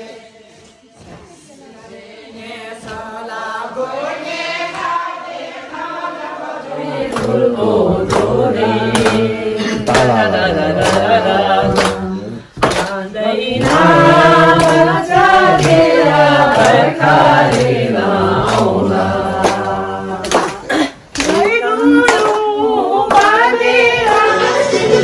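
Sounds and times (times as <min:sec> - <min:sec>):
group singing folk song: 0:00.0 - 0:25.0.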